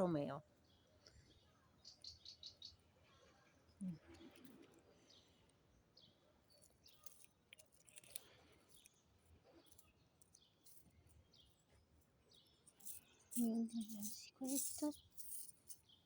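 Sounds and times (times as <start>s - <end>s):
faint bird chirps: 0.0s - 7.3s, 8.7s - 16.0s.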